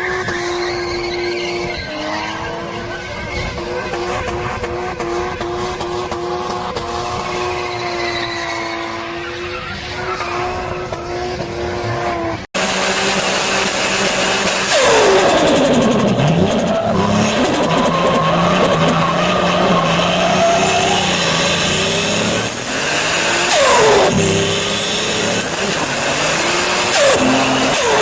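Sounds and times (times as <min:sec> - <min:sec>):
loud car: 0:00.0 - 0:28.0
turbocharged car engine revving: 0:00.0 - 0:28.0.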